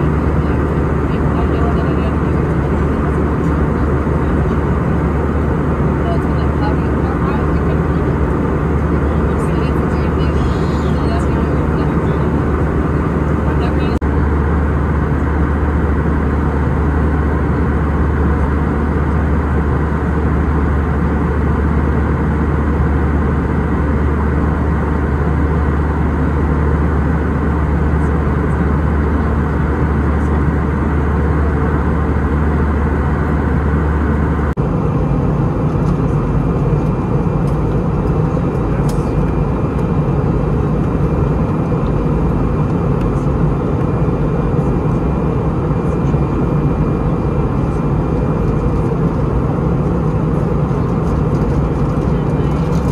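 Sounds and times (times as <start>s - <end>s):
airliner cabin noise: 0.0s - 52.9s
deep low hum: 0.0s - 52.9s.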